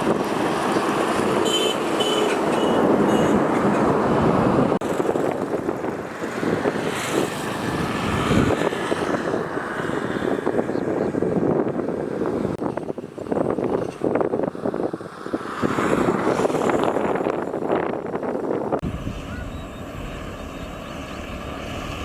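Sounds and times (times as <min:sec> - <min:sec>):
moving vehicle rushing noise: 0:00.0 - 0:22.0.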